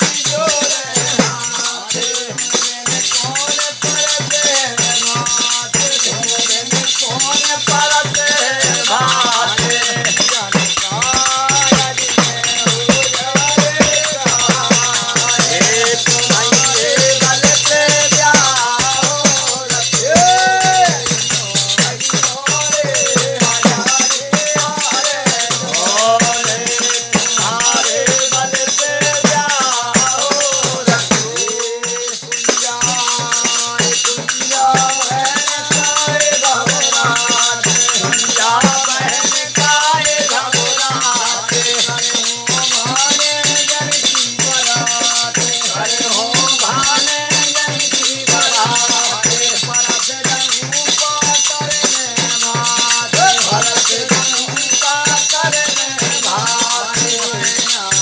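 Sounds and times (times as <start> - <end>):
frame drum with jingles: 0.0 - 58.0
man singing folk song: 0.0 - 58.0
small hand cymbals: 0.0 - 58.0.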